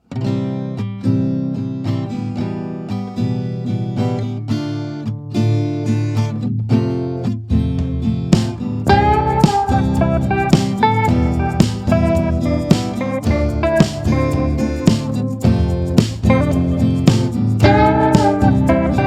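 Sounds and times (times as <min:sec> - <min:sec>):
acoustic guitar strumming chords: 0:00.1 - 0:19.0.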